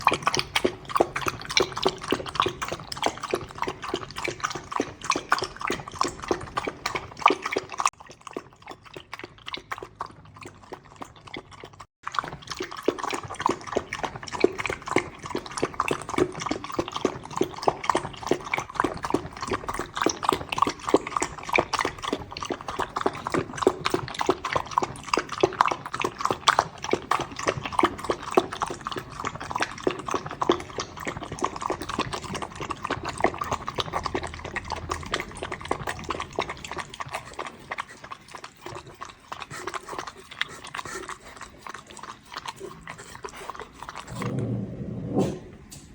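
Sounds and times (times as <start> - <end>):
puppy lapping milk: 0.0 - 45.9.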